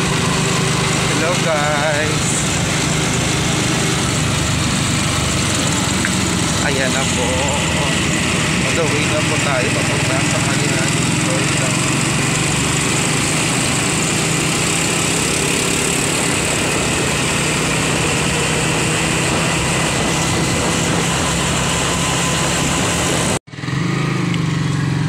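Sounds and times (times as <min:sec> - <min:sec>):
motorcycle engine running: 0:00.0 - 0:25.0
road noise: 0:00.0 - 0:25.0.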